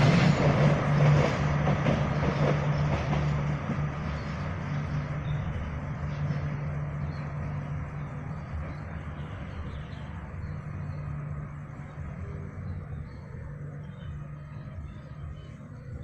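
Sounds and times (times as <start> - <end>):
passenger train passing: 0.0 - 16.0.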